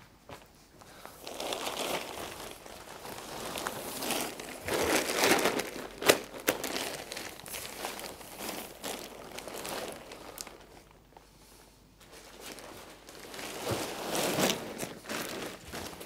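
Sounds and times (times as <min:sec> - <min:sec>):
tent fabric rustling: 0:01.2 - 0:10.7, 0:12.0 - 0:16.0.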